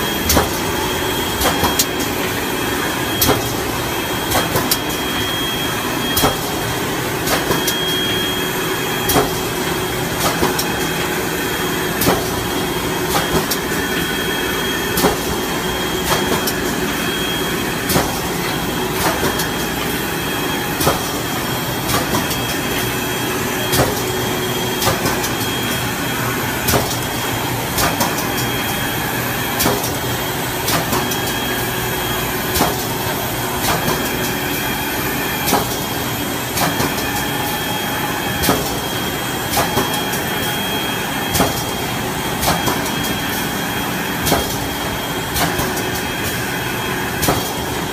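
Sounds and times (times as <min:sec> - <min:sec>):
machine running with high whine: 0:00.0 - 0:47.9.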